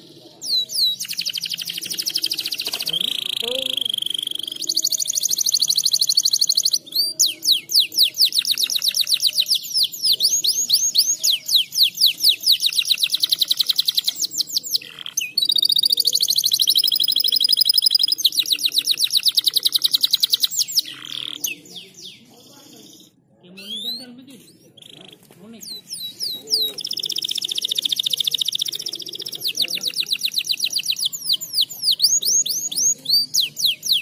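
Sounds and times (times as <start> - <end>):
canary singing rolling trills: 0.0 - 34.0.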